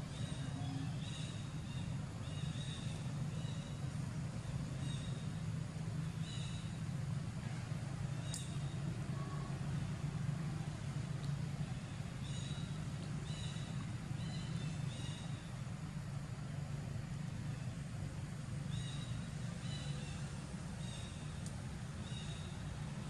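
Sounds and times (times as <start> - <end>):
low motor rumble: 0.0 - 23.0.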